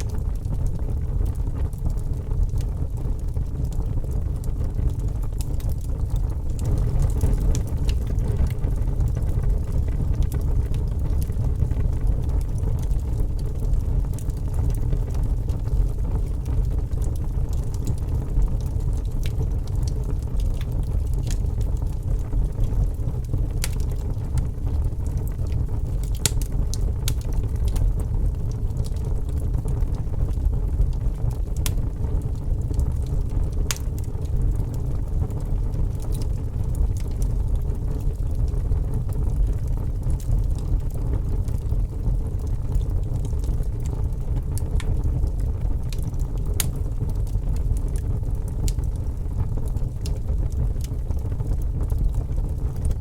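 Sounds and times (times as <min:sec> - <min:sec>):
fire burning rumble: 0:00.0 - 0:53.0
fire crackles and pops: 0:00.0 - 0:53.0.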